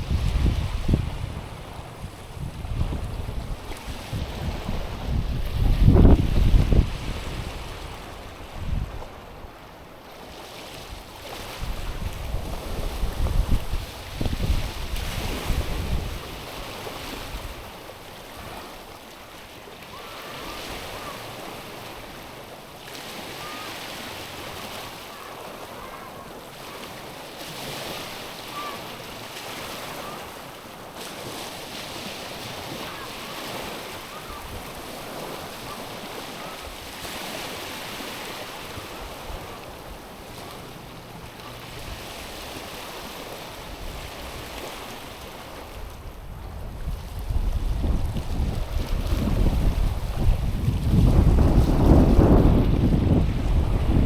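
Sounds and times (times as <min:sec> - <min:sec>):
small waves lapping on pebbly shore: 0:00.0 - 0:54.0.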